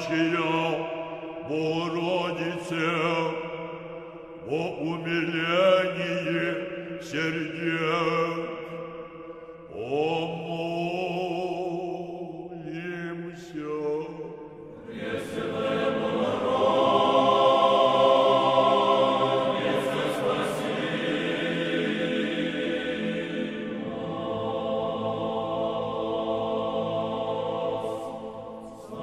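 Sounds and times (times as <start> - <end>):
choir singing a slow chant: 0.0 - 29.0.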